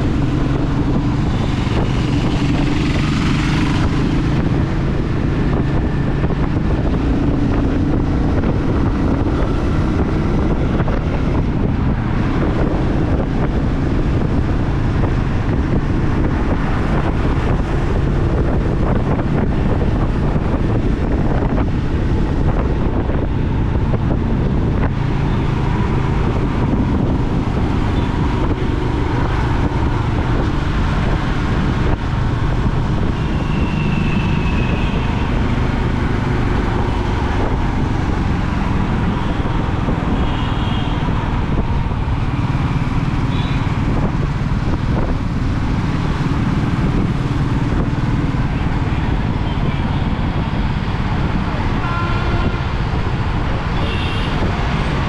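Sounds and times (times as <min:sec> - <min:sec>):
motorcycle engine and exhaust: 0:00.0 - 0:55.0
wind and road noise: 0:00.0 - 0:55.0.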